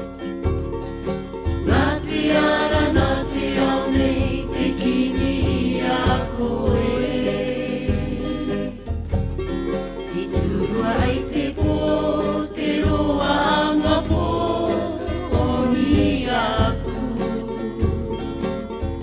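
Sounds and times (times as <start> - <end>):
group singing with instruments: 1.6 - 9.4, 10.0 - 19.0
repeating bass line: 1.7 - 9.4, 10.4 - 19.0.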